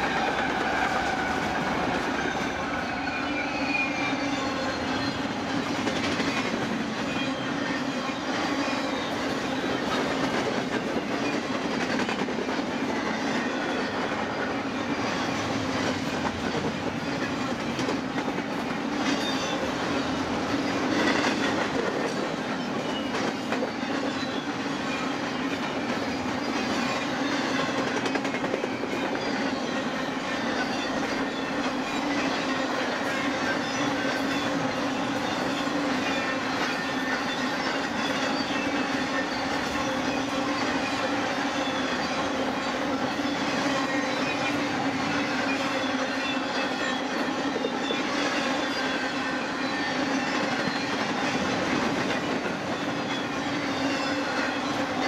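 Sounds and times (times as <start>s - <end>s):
faint high wheel squeal: 0.0s - 10.0s, 12.8s - 17.6s, 19.0s - 51.5s, 52.2s - 55.0s
diesel locomotive passing: 0.0s - 55.0s
freight train wheels rumbling: 0.0s - 55.0s.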